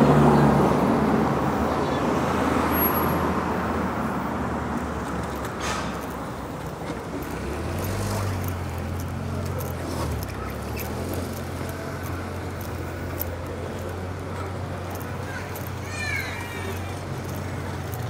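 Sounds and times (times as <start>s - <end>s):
motor vehicle humming: 0.0s - 18.0s.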